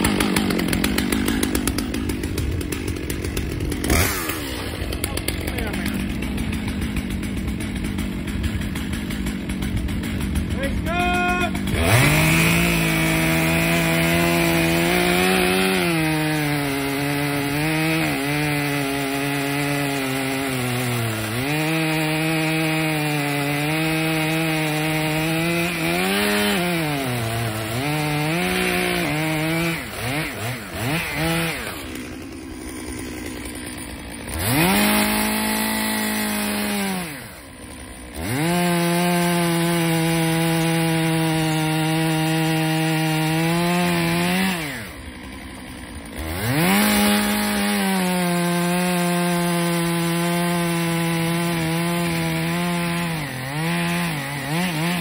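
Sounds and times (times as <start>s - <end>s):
chainsaw cutting tree: 0.0s - 55.0s.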